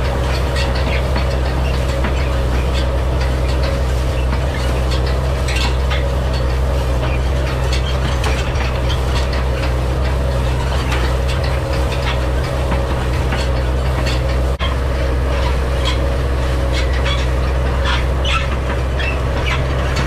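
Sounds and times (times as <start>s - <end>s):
diesel tractor droning: 0.0s - 20.0s.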